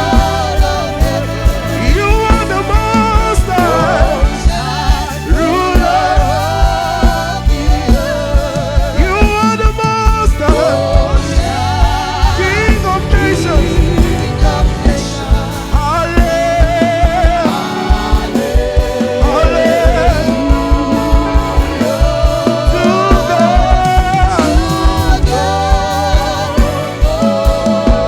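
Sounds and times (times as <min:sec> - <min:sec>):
drums steady beat: 0:00.0 - 0:28.0
gospel band playing: 0:00.0 - 0:28.0
voices singing long notes: 0:00.0 - 0:28.0.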